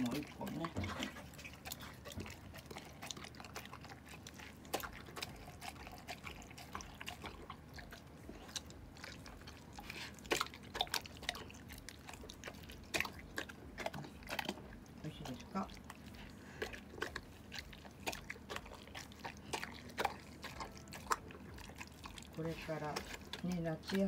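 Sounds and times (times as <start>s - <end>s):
dog chewing wet food: 0.0s - 24.0s.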